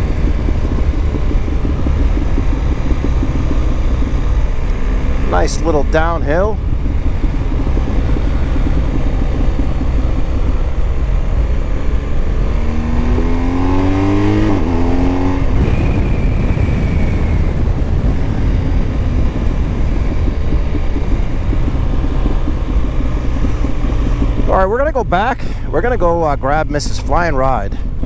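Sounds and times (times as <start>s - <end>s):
wind rush: 0.0s - 27.0s
motorcycle engine running: 0.0s - 28.0s.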